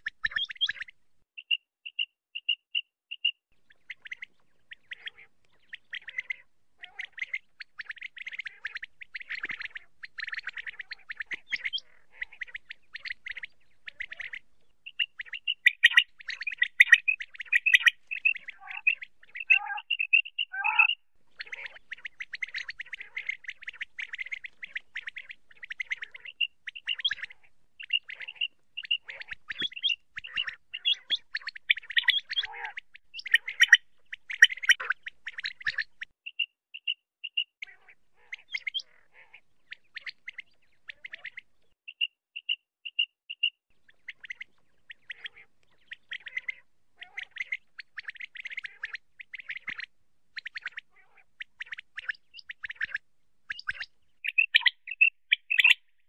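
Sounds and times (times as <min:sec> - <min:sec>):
quail chirping: 0:00.0 - 0:55.9.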